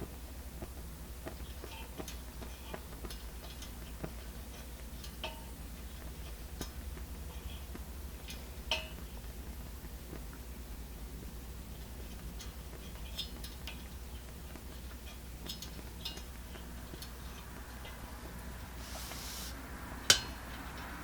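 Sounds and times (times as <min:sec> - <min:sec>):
steady low hum: 0:00.0 - 0:21.0
light metallic clicks and ticks: 0:00.6 - 0:10.4, 0:11.8 - 0:18.4, 0:20.1 - 0:21.0.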